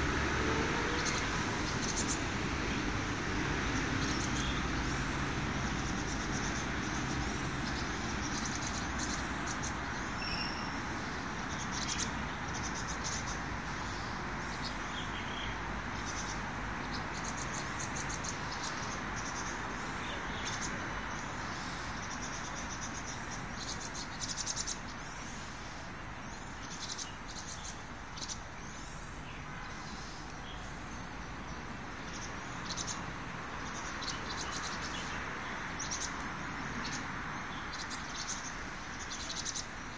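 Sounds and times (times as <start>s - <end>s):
outdoor background hum: 0.0s - 39.9s
insects chirping: 0.1s - 39.9s.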